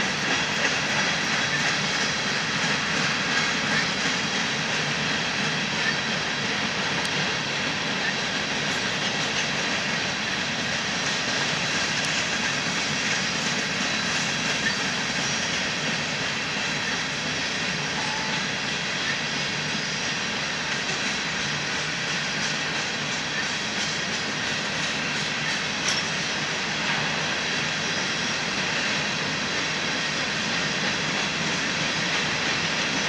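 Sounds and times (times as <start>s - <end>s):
steel wheels rolling on rails: 0.0s - 33.0s.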